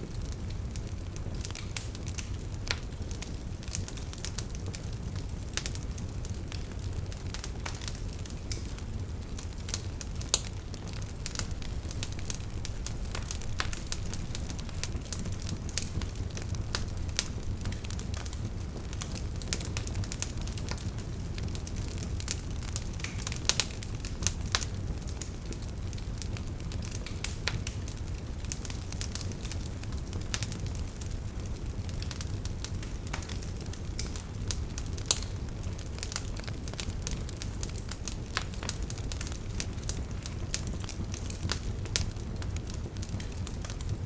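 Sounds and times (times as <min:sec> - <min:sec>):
campfire snaps and pops: 0:00.0 - 0:44.0
fire low rumble: 0:00.0 - 0:44.0.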